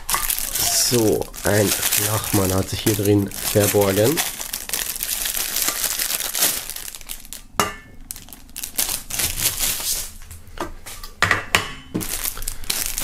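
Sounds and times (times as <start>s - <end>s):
plastic film crinkling: 0.0s - 7.5s, 8.1s - 10.4s, 12.0s - 13.0s.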